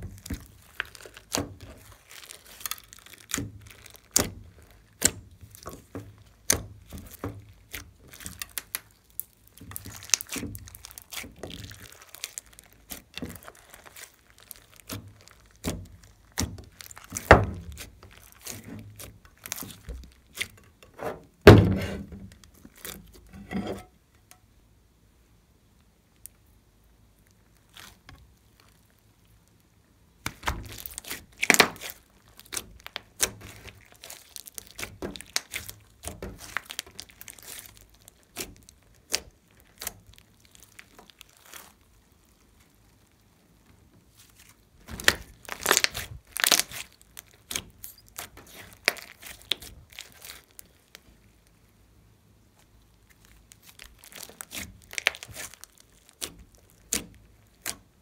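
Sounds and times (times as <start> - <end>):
slime squeezed crackling and popping: 0.0 - 20.8, 27.1 - 58.0.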